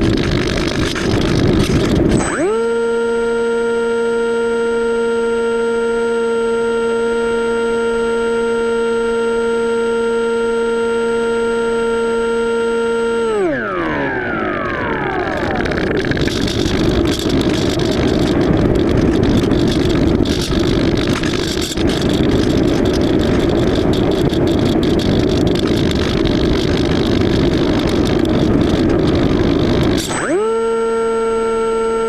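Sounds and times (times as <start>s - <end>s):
model plane airflow rushing: 0.0s - 9.2s, 12.0s - 32.0s.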